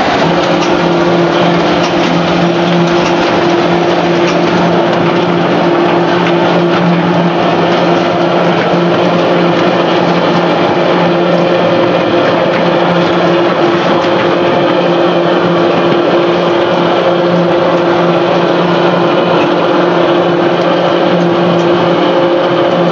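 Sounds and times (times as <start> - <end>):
constant rushing noise: 0.0 - 22.9
machinery hum: 0.0 - 22.9.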